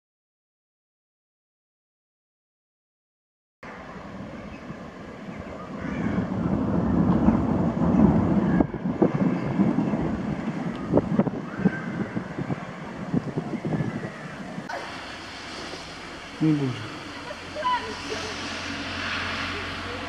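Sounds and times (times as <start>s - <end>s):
rolling thunder: 3.7s - 20.0s
sharp thunder crackles: 3.9s - 20.0s.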